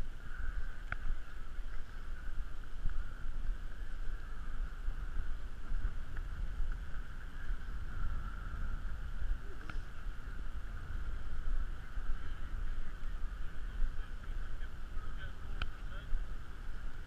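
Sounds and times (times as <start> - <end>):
steady hiss: 0.0 - 17.0
wind rumble on microphone: 0.0 - 17.0.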